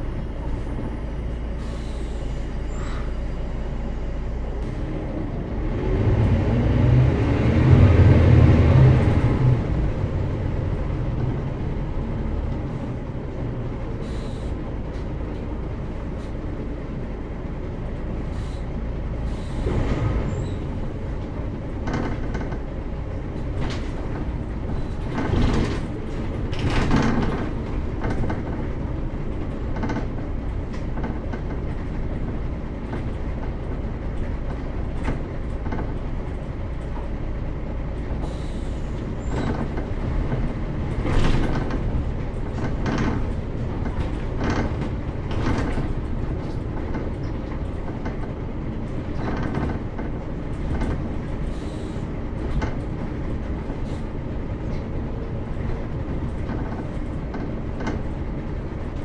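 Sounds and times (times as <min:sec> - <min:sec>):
bus engine pulling: 0:00.0 - 0:59.0.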